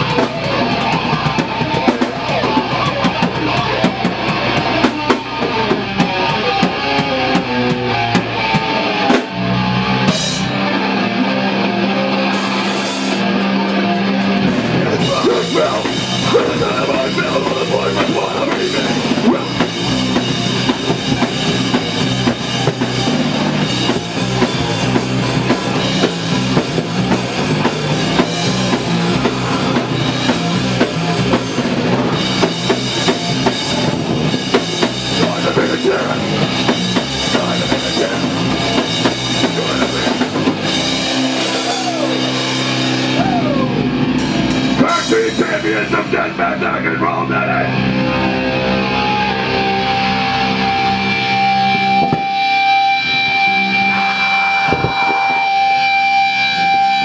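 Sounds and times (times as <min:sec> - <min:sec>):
heavy metal band playing: 0:00.0 - 0:57.0.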